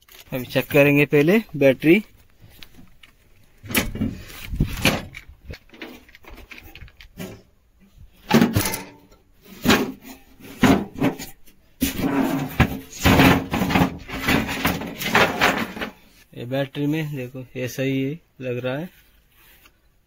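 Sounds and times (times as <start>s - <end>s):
continuous scraping: 0.0s - 20.0s.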